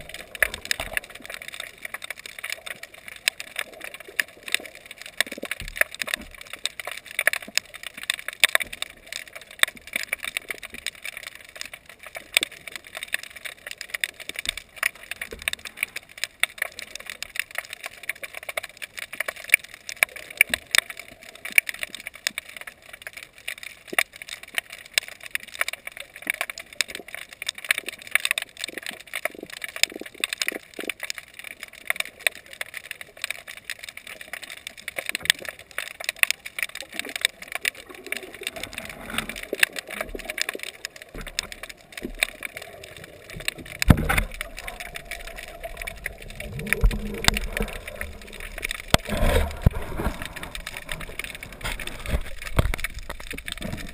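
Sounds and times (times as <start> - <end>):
rumbles of moving water: 0.0 - 53.9
underwater crackling clicks: 0.0 - 53.9.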